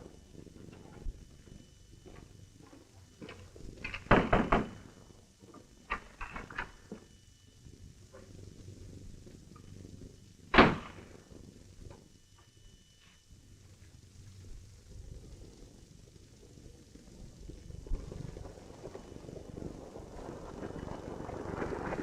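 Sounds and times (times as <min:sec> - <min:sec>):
film soundtrack hiss: 0:00.0 - 0:22.0.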